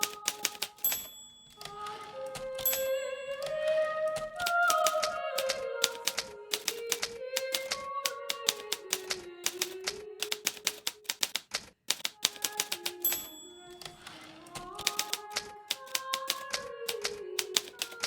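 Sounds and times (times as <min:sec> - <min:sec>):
typewriter keystrokes: 0:00.0 - 0:18.0.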